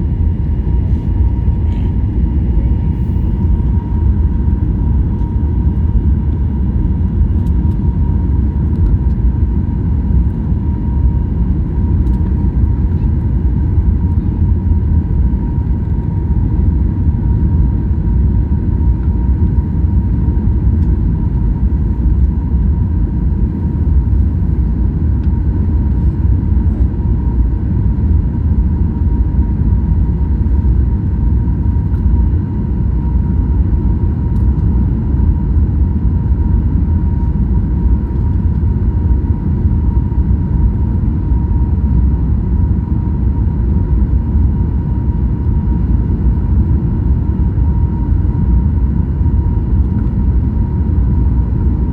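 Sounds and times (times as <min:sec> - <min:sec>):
airplane low rumble: 0:00.0 - 0:51.9.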